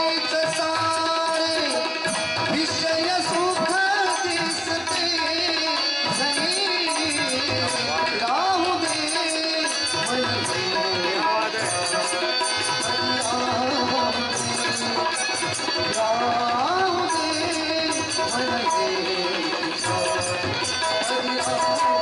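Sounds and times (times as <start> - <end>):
harmonium: 0.0 - 22.0
men singing devotional song: 0.0 - 22.0
tabla: 0.0 - 22.0.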